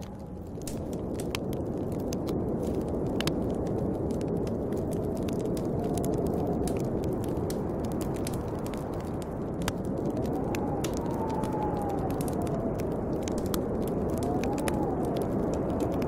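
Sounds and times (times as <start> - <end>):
bonfire crackling: 0.0 - 16.0
wind rushing: 0.0 - 16.0.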